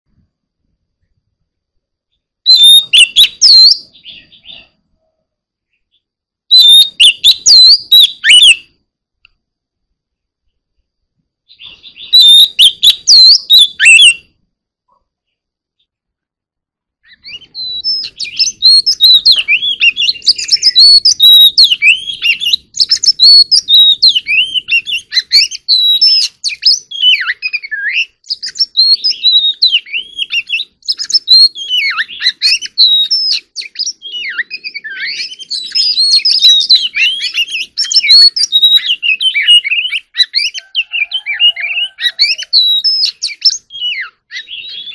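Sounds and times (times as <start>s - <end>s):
bird singing rapid varied phrases: 2.0s - 4.9s, 5.6s - 8.8s, 11.4s - 14.4s, 16.9s - 44.9s.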